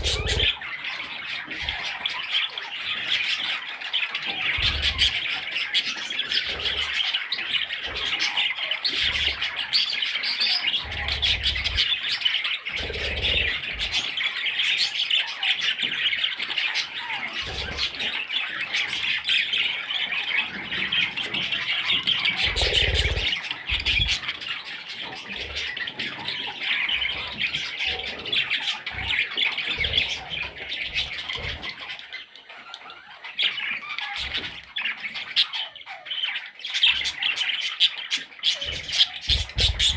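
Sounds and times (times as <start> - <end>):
budgerigars squawking and chirping: 0.0 - 39.9.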